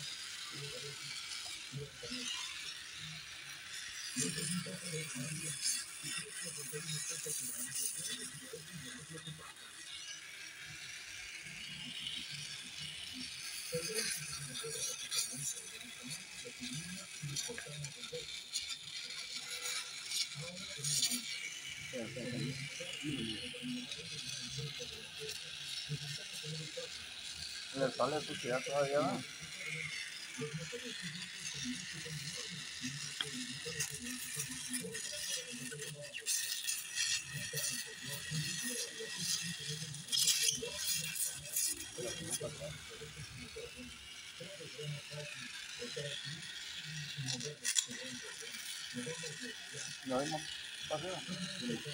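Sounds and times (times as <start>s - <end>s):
welding torch flame hissing: 0.0s - 51.9s.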